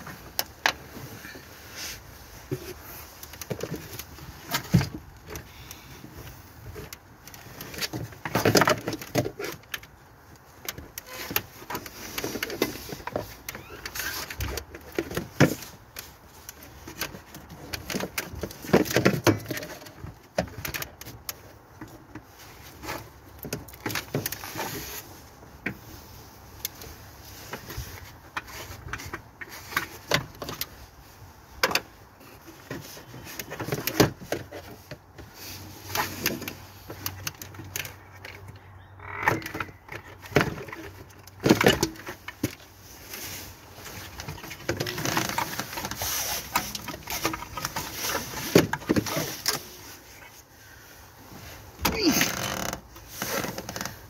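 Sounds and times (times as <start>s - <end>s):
tools clicking and rattling on engine: 0.0s - 54.0s.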